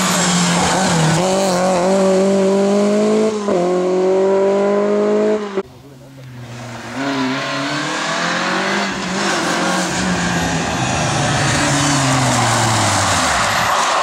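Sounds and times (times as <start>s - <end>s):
rally car engine at full speed: 0.0s - 14.0s
tyre and road noise: 0.0s - 14.0s.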